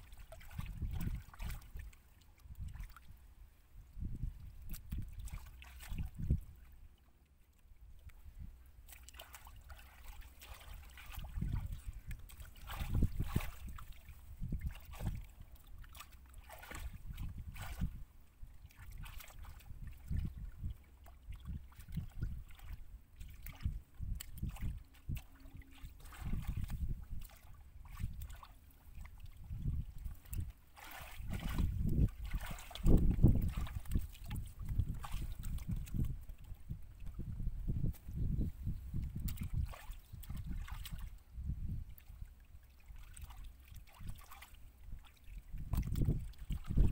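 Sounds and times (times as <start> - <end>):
muddy water sloshing and splashing: 0.0 - 46.9.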